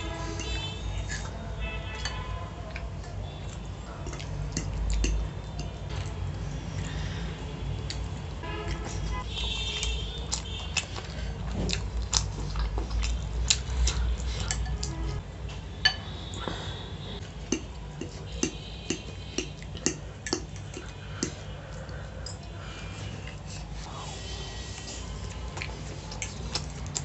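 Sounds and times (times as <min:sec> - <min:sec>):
chewing: 0:00.2 - 0:15.2, 0:16.3 - 0:23.9, 0:24.8 - 0:27.0.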